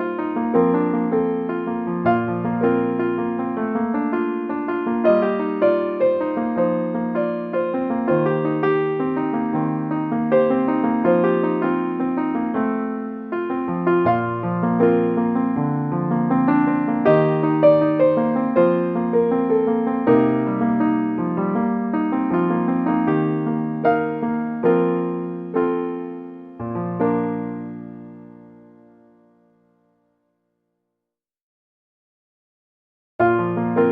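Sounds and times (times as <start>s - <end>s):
slow gentle piano music: 0.0s - 30.6s, 33.2s - 33.9s.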